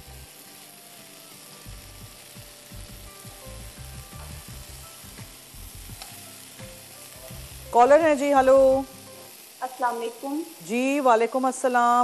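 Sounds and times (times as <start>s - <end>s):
peas sizzling in a frying pan: 0.0s - 12.0s.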